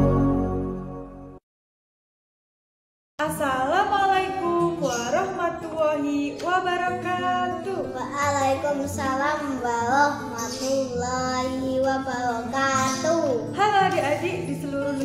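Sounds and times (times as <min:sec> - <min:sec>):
instrumental backing music: 0:00.0 - 0:01.4, 0:03.2 - 0:15.0.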